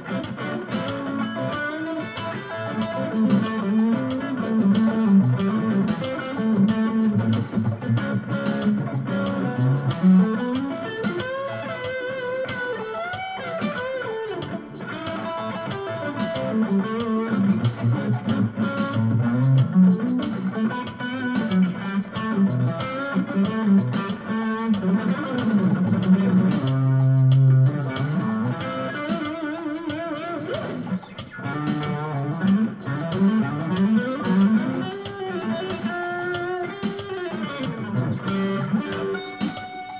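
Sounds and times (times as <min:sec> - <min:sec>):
drum machine groove: 0:00.0 - 0:39.9
electric guitar lead with bends: 0:00.0 - 0:39.9.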